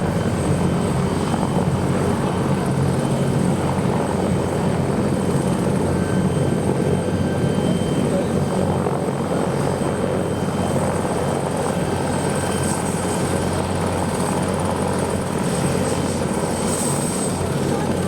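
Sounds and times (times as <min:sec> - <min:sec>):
helicopter engine and rotor rumble: 0:00.0 - 0:18.0.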